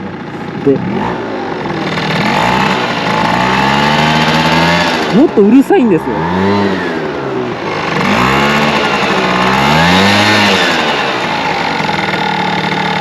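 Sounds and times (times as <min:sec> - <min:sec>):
scooter engine revving and idling: 0:00.0 - 0:13.0.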